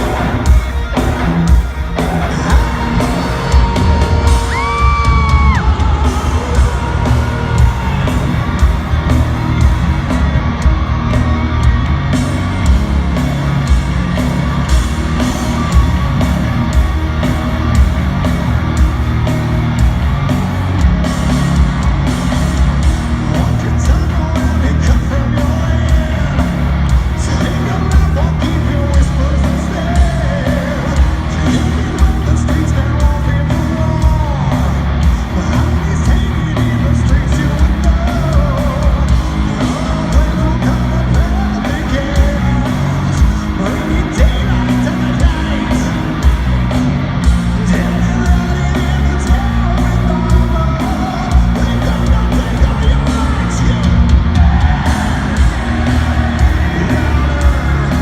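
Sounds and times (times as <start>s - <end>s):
crowd yelling: 0.0s - 58.0s
heavy metal band playing: 0.0s - 58.0s.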